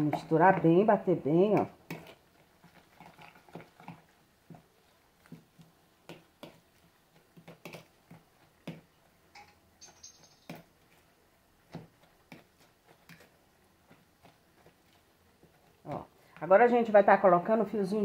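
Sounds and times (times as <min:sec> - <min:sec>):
utensil beating eggs in bowl: 0:00.0 - 0:09.3, 0:10.4 - 0:16.8.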